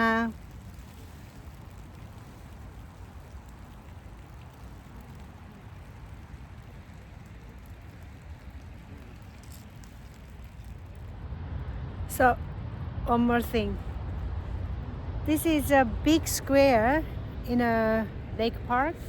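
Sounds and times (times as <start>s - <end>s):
steady light rain: 0.0s - 19.0s.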